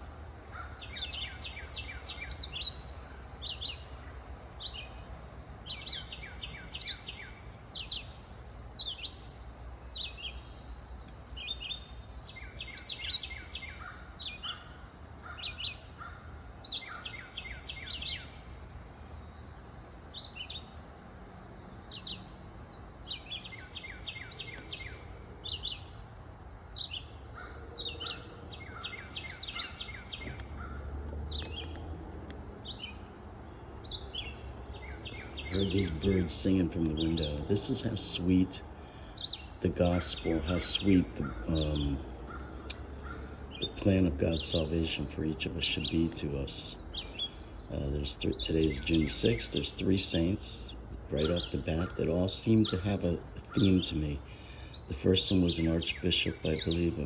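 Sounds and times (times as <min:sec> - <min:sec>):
songbirds whistling: 0:00.0 - 0:20.8, 0:21.6 - 0:57.0.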